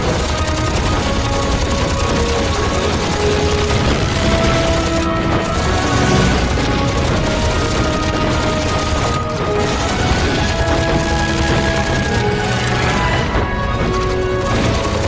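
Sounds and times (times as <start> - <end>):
dramatic orchestral film score: 0.0 - 15.0
rifle and machine-gun fire: 0.0 - 15.0.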